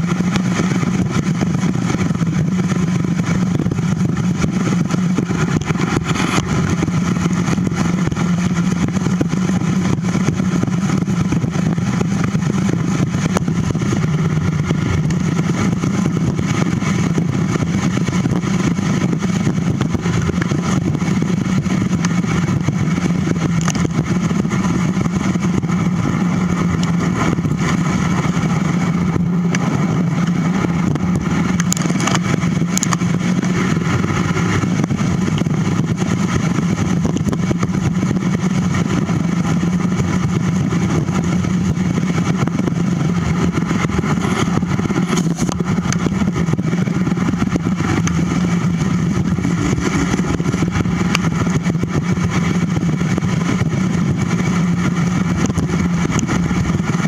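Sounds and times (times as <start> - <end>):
constant low hum: 0.0 - 57.0
wind rushing over camera: 0.0 - 57.0.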